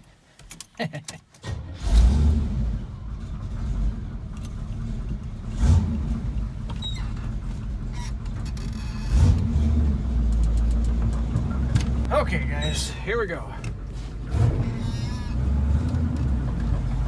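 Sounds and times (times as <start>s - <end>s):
engine idling and revving: 1.4s - 17.0s.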